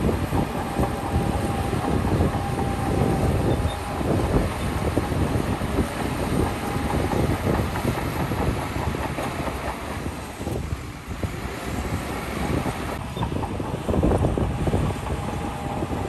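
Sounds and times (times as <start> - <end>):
steel tracks clattering: 0.0 - 16.0.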